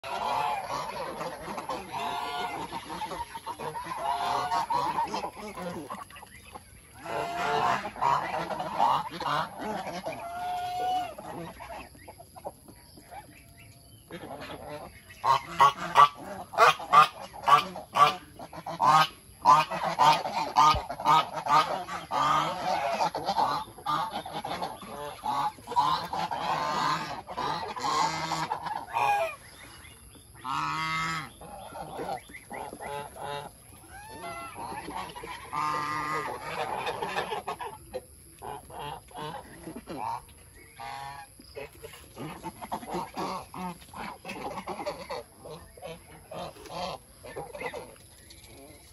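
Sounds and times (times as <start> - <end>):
geese honking: 0.0 - 29.8, 30.4 - 48.9.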